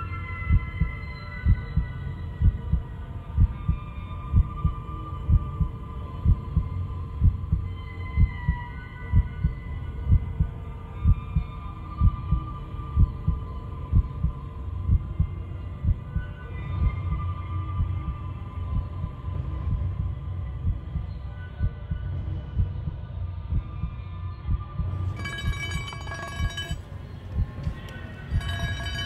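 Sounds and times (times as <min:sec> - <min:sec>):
droning hum with high tones: 0:00.0 - 0:29.0
slow heartbeat thumps: 0:00.5 - 0:17.1, 0:18.7 - 0:29.0.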